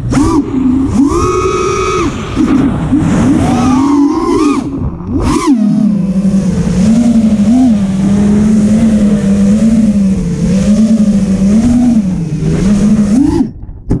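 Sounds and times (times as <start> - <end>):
drone motors whining: 0.0 - 13.8.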